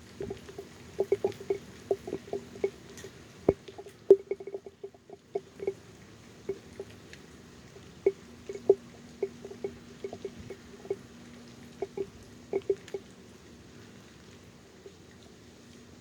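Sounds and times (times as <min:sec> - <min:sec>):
raindrops tapping on phone: 0:00.0 - 0:16.0.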